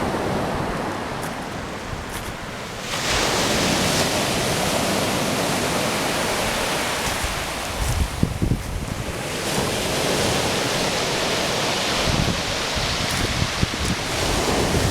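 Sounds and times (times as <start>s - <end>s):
waves breaking: 0.0s - 14.9s
wind buffeting microphone: 0.0s - 14.9s.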